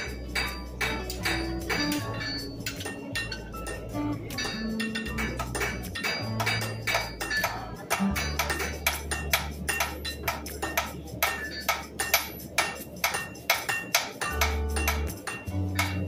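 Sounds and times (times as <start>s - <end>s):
background music with low bass: 0.0s - 16.0s
hammer striking metal on anvil: 0.0s - 16.0s.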